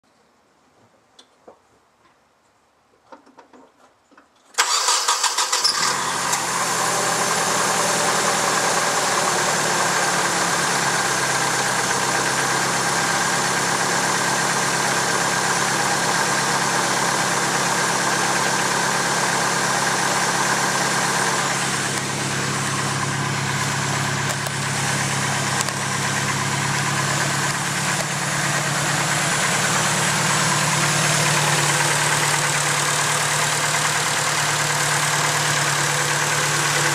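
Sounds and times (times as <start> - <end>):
car engine starting and idling: 4.6 - 36.9
engine ticking: 4.6 - 36.9.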